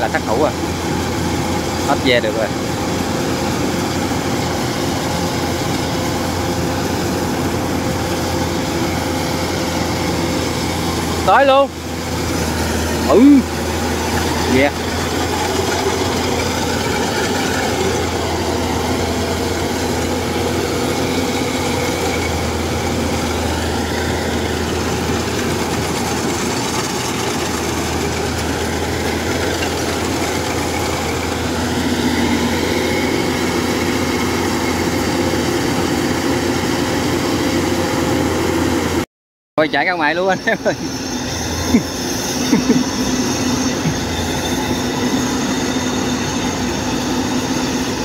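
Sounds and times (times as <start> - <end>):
threshing gear working: 0.0 - 36.7, 40.4 - 48.0
combine harvester diesel engine: 0.0 - 39.0, 39.6 - 48.0.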